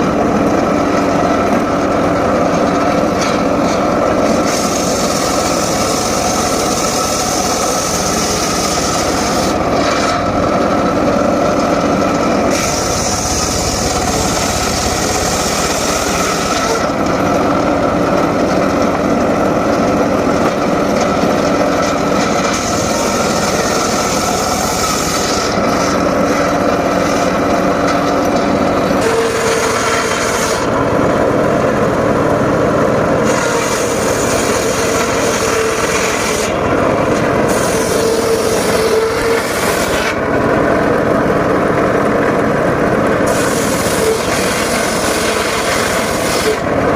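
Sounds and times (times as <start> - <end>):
circular saw cutting wood: 0.0 - 42.2, 42.8 - 46.9
saw motor hum: 0.0 - 46.9.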